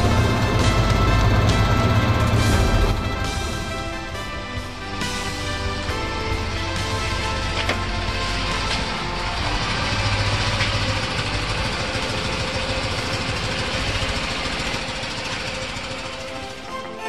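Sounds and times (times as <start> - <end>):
air-cooled engine idling: 0.0 - 17.0.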